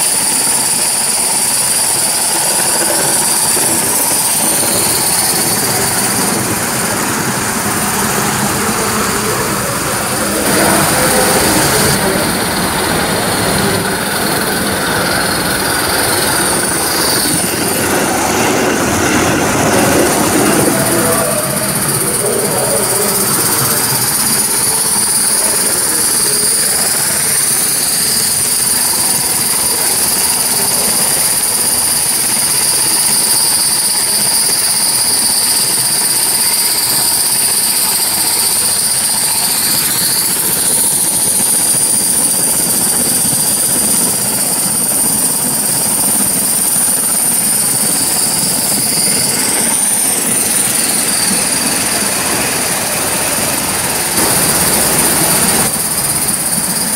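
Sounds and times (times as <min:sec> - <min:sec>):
high wavering whines: 0:00.0 - 0:56.9
model steam locomotive hissing and rolling: 0:00.0 - 0:56.9.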